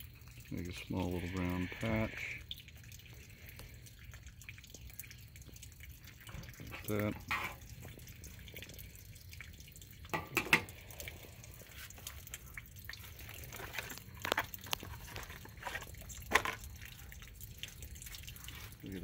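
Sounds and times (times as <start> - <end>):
water running and dripping: 0.0 - 19.0.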